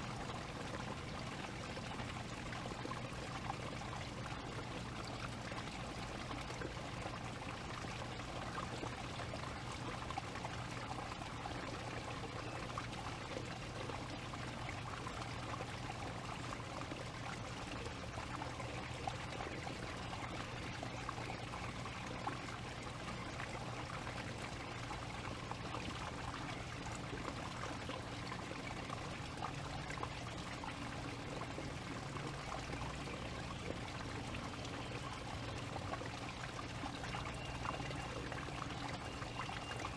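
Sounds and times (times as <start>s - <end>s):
water trickling with crackles: 0.0s - 39.9s.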